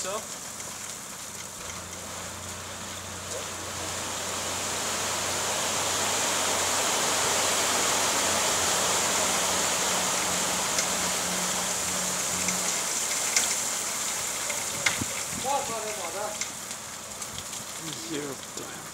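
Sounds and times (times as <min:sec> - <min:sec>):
pebbles sliding from truck: 0:00.0 - 0:05.4, 0:08.2 - 0:18.9.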